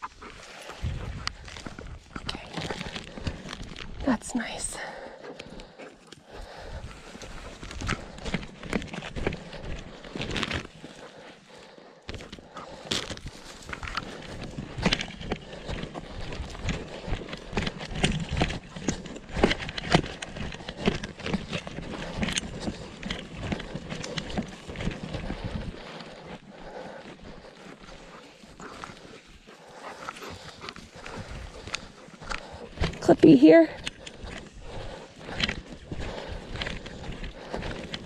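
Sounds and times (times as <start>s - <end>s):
footsteps crunching through undergrowth: 0.0s - 4.6s, 5.2s - 38.0s
brush rustling: 0.0s - 38.0s.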